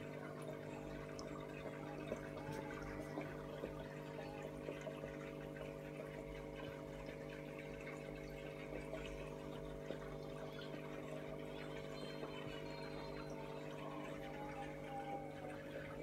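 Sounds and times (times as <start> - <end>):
filter motor hum: 0.0 - 16.0
water trickling and dripping: 0.0 - 16.0.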